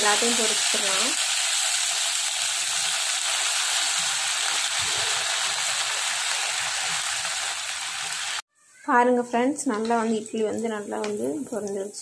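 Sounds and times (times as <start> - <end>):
food sizzling in hot oil: 0.0 - 8.5, 9.6 - 12.0.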